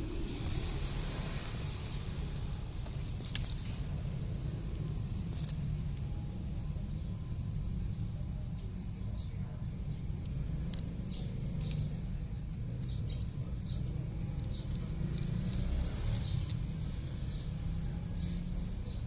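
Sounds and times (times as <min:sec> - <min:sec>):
low rumble: 0:00.0 - 0:16.6.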